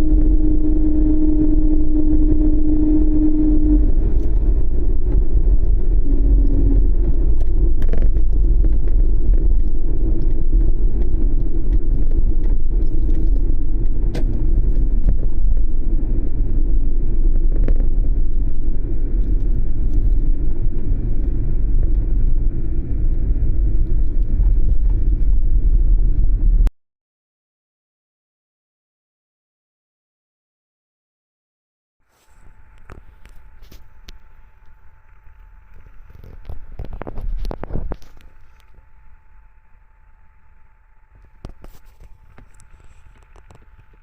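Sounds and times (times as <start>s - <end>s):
van engine and road rumble: 0.0s - 26.7s, 32.1s - 44.0s.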